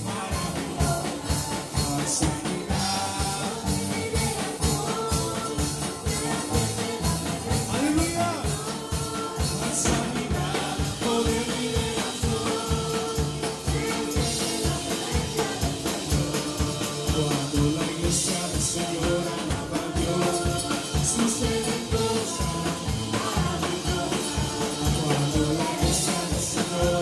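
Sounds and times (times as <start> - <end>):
drum kit steady beat: 0.0 - 27.0
electric guitar: 0.0 - 27.0
singers holding long notes: 0.0 - 27.0.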